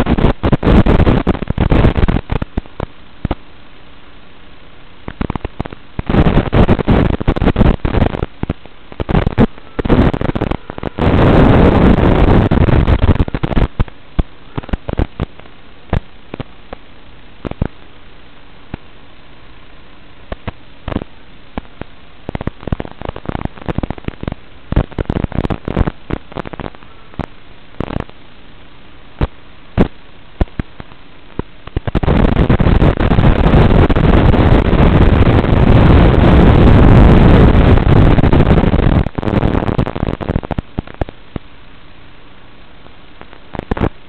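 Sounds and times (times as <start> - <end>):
loud rush of static: 0.0 - 44.0
radio static hiss with crackles: 0.0 - 44.0.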